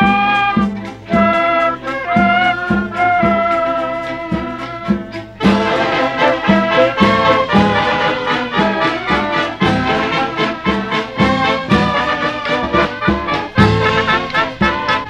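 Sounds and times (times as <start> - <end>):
brass band playing: 0.0 - 15.0
trombones: 0.0 - 15.0.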